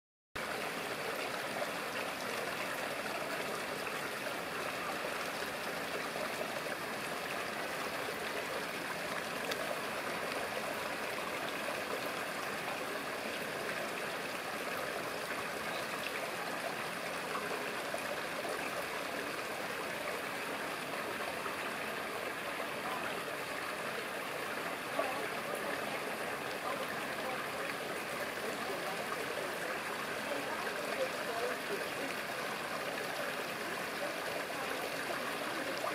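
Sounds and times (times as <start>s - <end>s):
stream rushing over rocks: 0.4s - 35.9s.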